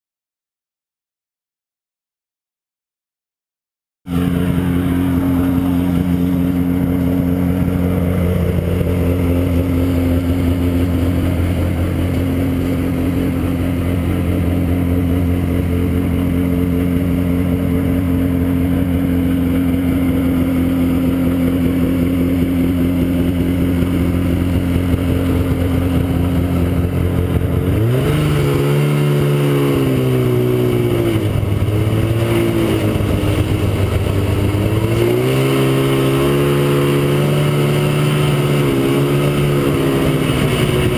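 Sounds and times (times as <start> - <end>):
snowmobile engine running: 4.1 - 40.9.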